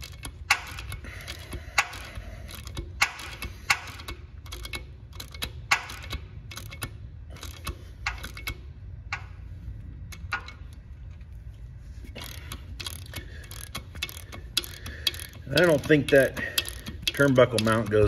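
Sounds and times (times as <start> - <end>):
socket ratchet clicking: 0.0 - 9.4, 10.0 - 10.9, 12.1 - 18.0
steady low hum: 0.0 - 18.0.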